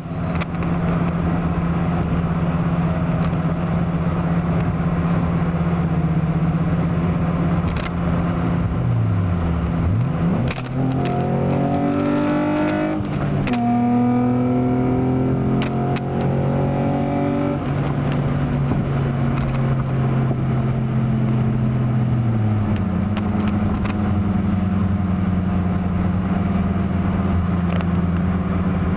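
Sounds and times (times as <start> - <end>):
car engine heard from inside cabin: 0.0 - 28.9.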